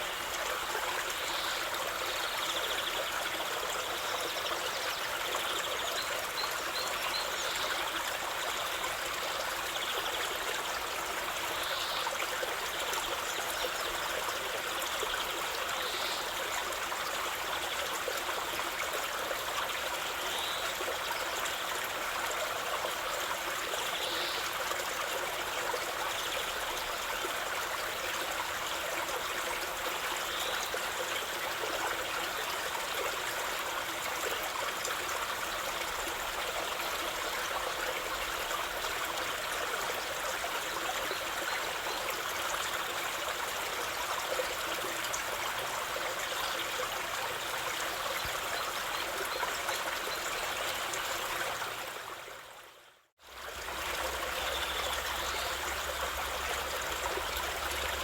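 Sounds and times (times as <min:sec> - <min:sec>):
water flowing in a stream: 0:00.0 - 0:58.0.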